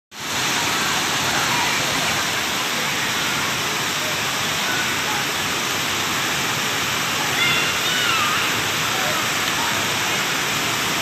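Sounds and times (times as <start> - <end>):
waterfall rushing: 0.2 - 11.0.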